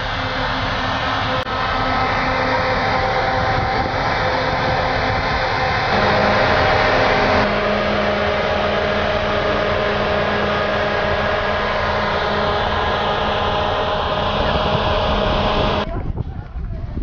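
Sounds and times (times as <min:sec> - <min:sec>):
snow machine air rush: 0:00.0 - 0:15.8
motor hum: 0:00.0 - 0:15.9.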